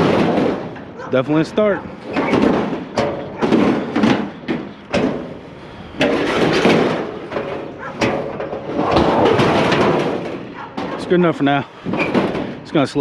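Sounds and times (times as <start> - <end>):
metal dragging and scraping: 0.0 - 13.0
scrap metal knocks and clanks: 0.0 - 13.0.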